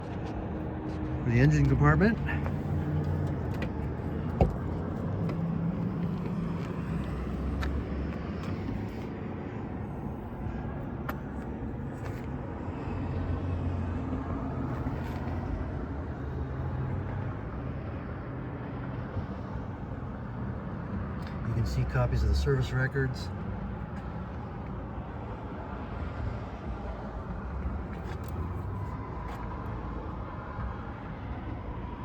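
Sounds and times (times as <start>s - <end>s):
vehicle engine rumble: 0.0s - 31.9s.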